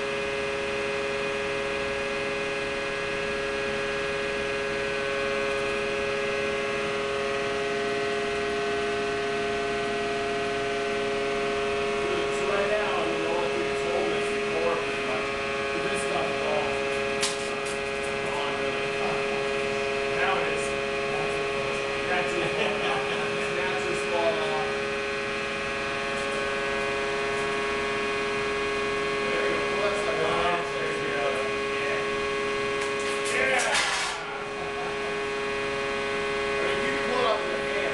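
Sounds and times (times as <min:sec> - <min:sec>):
hydraulic pump humming: 0:00.0 - 0:37.9.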